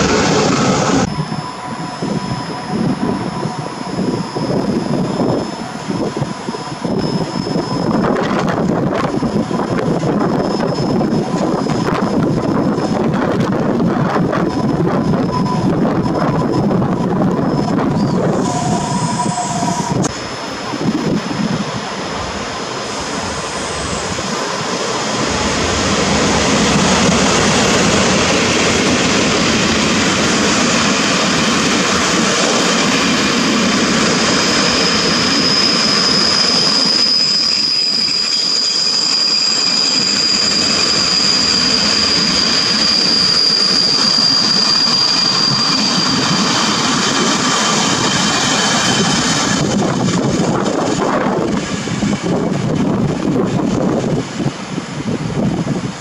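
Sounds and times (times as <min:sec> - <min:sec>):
high wheel squeal: 0:00.0 - 0:52.2
train wheels clattering on rail: 0:03.9 - 0:18.8, 0:19.9 - 0:56.0.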